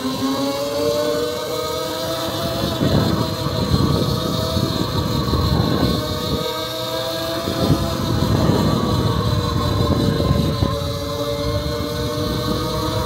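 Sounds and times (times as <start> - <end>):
electric bike motor whine: 0.0 - 13.0
wind rumble on microphone: 0.0 - 13.0.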